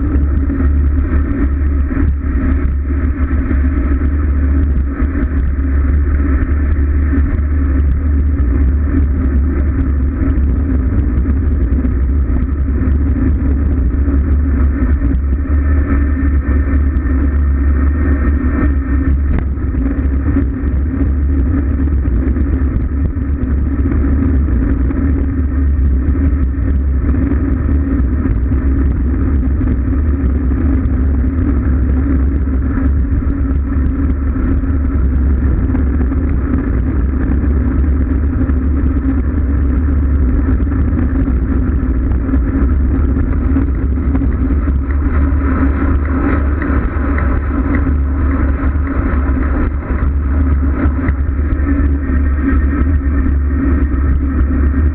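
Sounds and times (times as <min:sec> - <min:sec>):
road noise: 0:00.0 - 0:54.9
wind buffeting microphone: 0:00.0 - 0:54.9.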